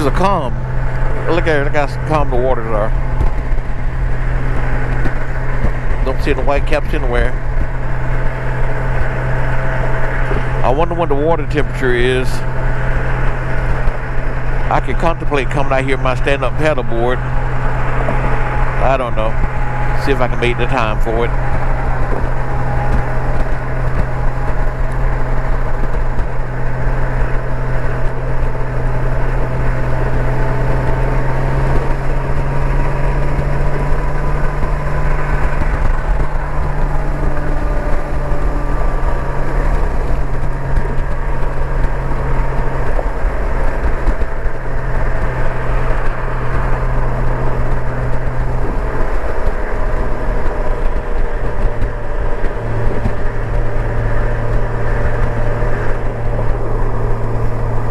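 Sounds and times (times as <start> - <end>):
motorcycle engine drone: 0.0 - 57.9
wind and road noise: 0.0 - 57.9.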